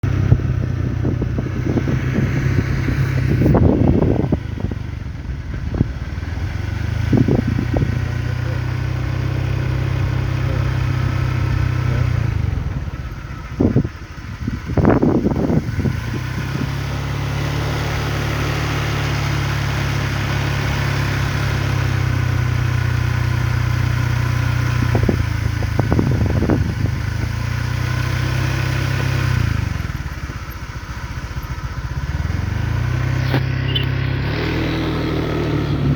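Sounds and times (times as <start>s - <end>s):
small engine running: 0.0s - 35.9s.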